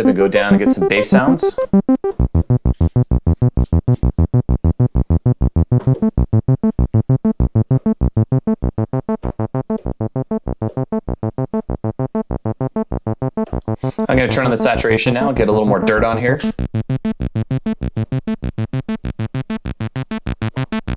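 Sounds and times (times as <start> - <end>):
bass synthesizer arpeggio: 0.0 - 20.9.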